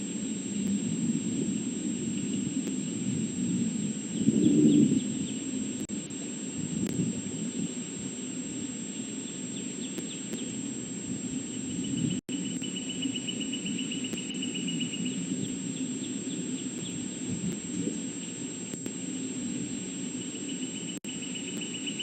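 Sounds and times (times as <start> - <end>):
thin high whine: 0.0 - 22.0.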